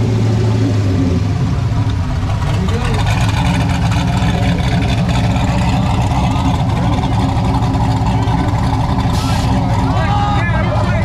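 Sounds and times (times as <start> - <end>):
car engine idling low: 0.0 - 11.0.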